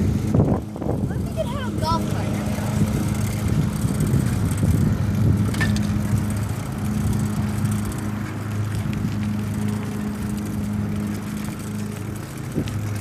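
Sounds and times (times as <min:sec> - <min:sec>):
ride noise: 0:00.0 - 0:13.0
small motor humming: 0:00.0 - 0:13.0.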